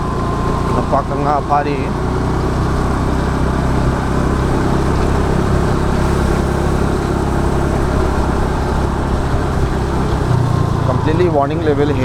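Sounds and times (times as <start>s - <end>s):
road noise: 0.0s - 12.0s
scooter engine running: 0.0s - 12.0s.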